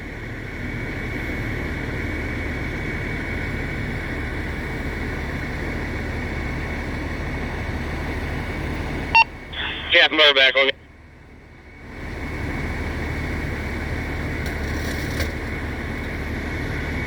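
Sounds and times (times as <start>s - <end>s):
constant high whine: 0.0s - 17.0s
engine low hum: 0.0s - 17.0s.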